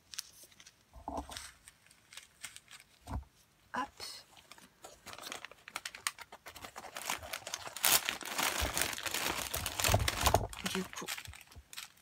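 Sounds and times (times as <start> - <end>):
packaging crinkling and rustling: 0.0 - 3.4, 4.3 - 12.0.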